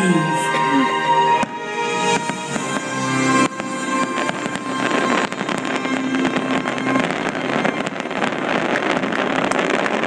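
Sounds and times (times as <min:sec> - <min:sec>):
fireworks crackling: 0:01.3 - 0:10.0.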